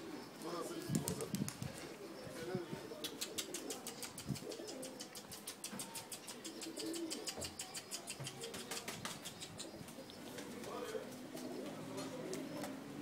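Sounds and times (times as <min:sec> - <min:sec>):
faint pigeon cooing: 0:00.0 - 0:13.0
pigeon wingbeats: 0:00.7 - 0:01.9, 0:03.0 - 0:12.8.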